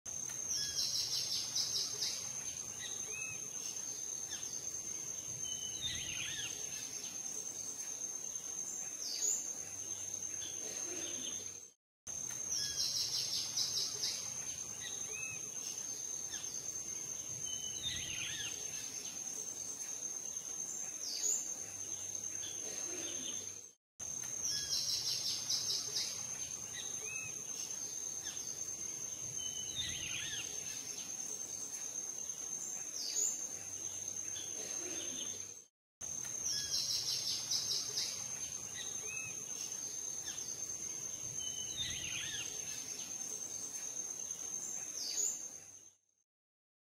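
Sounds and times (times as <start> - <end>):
insect trill: 0.1 - 46.0.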